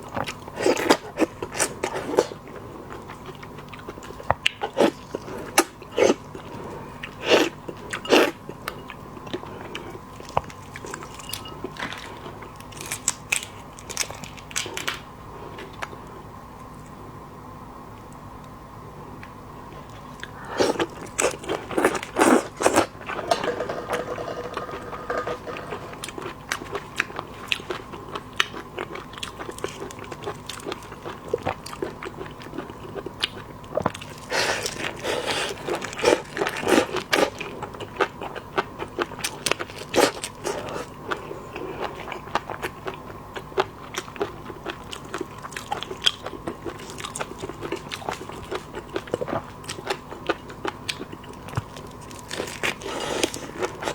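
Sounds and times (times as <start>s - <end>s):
crunchy chewing: 0.0s - 17.0s, 19.2s - 23.6s, 24.6s - 53.9s.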